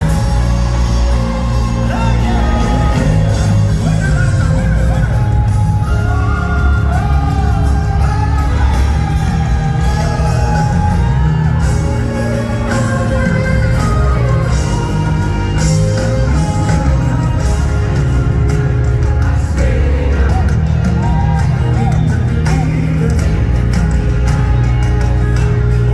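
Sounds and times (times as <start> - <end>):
gospel music with bass: 0.0 - 25.9.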